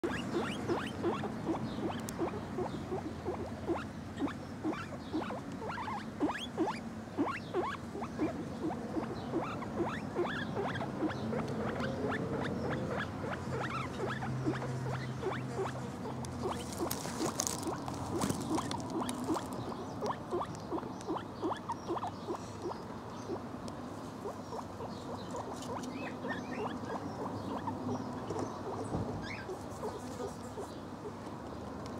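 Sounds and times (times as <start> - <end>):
guinea pig calls: 0.0 - 23.4, 24.2 - 30.7.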